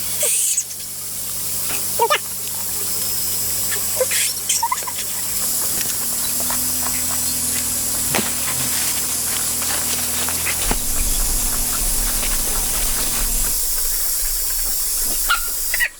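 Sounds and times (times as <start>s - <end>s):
steady hiss: 0.0s - 15.9s.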